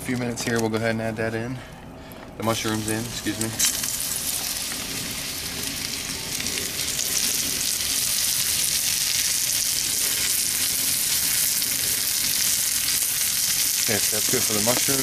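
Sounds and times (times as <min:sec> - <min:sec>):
mushrooms sizzling in hot oil: 0:02.5 - 0:15.0.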